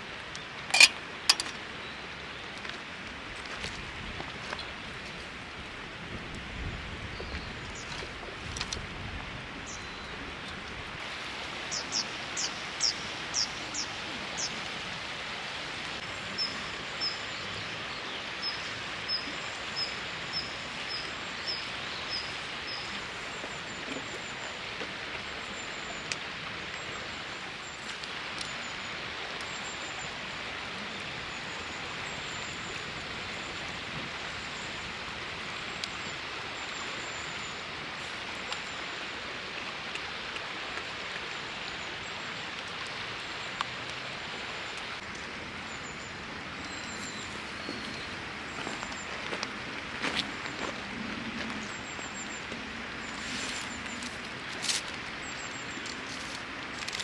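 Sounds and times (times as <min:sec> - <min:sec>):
river water rushing: 0:00.0 - 0:03.0, 0:11.0 - 0:57.0.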